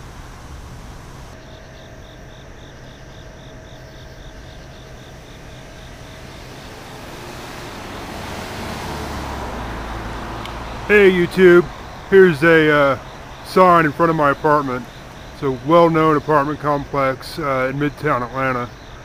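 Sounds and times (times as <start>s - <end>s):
vehicle approaching: 0.0s - 1.4s, 4.2s - 19.0s
traffic hum: 0.0s - 19.0s.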